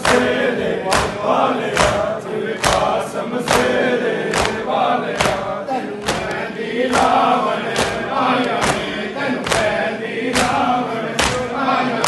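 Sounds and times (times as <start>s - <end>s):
hands slapping chests: 0.0s - 11.6s
men chanting a lament: 0.0s - 12.0s.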